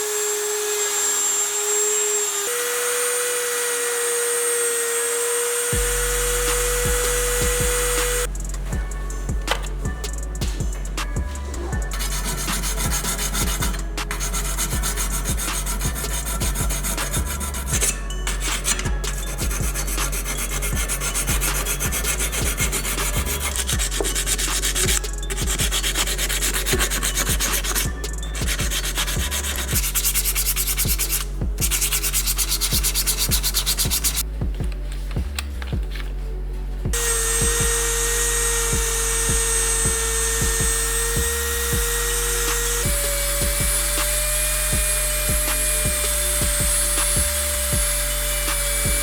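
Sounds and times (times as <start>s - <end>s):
sandpaper rubbing on metal: 0.0s - 8.8s, 11.0s - 34.3s, 37.0s - 49.0s.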